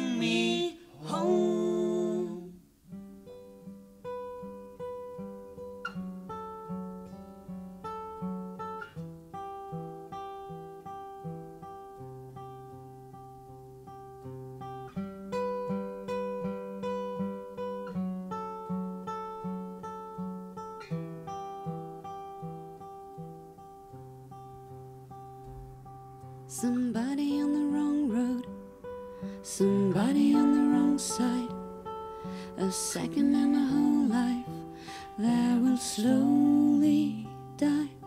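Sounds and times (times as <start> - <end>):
acoustic guitar chords: 0.0 - 38.0.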